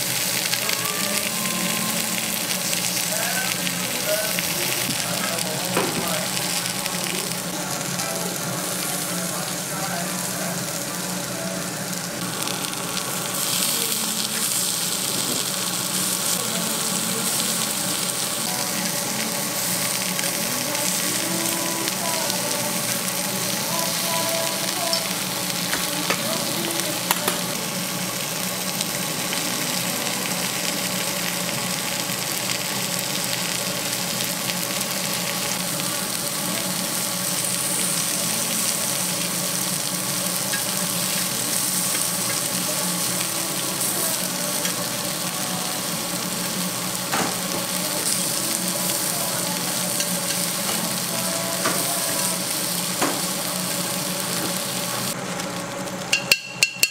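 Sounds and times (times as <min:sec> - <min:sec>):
meat sizzling on grill pan: 0:00.0 - 0:56.2.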